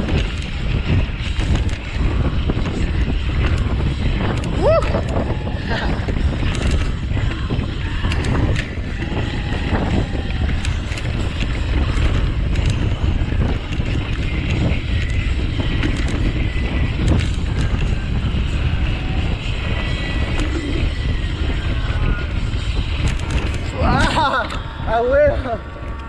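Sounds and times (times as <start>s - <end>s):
bike knocks and rattles: 0.0s - 24.6s
bike tyres rumbling on dirt: 0.0s - 24.8s
wind buffeting microphone: 0.0s - 26.0s.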